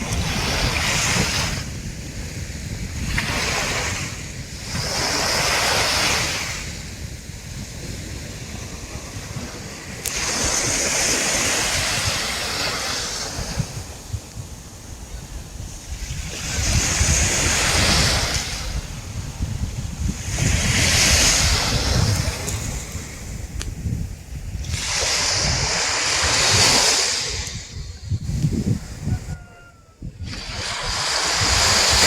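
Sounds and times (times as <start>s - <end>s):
sea waves breaking on sand: 0.0s - 23.8s, 24.5s - 28.0s, 30.2s - 32.0s.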